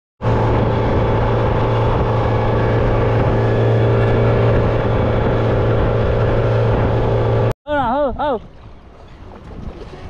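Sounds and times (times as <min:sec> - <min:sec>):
boat engine running: 0:00.2 - 0:10.0.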